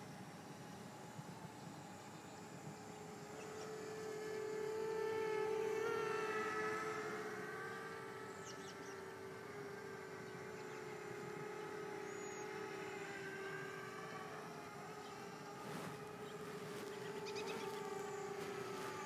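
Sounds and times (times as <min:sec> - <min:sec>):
quadcopter propellers humming: 0:00.0 - 0:19.0.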